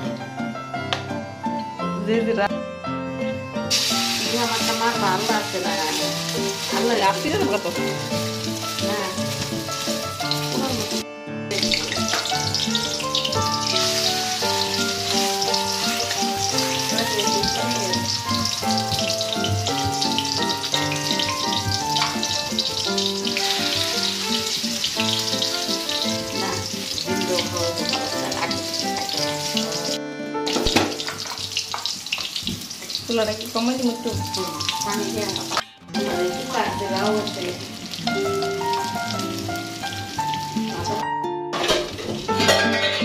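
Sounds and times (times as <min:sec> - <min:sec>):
background music with held notes: 0:00.0 - 0:43.0
patties sizzling in hot oil: 0:03.6 - 0:41.0, 0:41.8 - 0:43.0.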